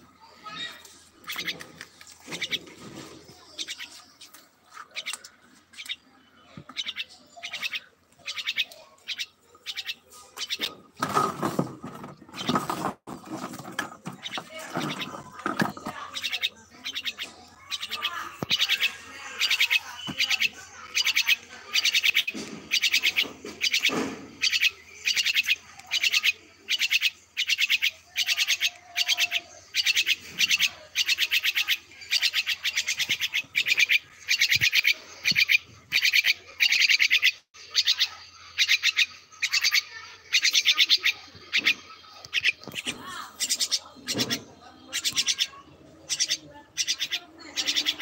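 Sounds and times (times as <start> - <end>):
bird harsh rattling calls: 0.4 - 4.0, 6.7 - 11.6, 12.3 - 48.0.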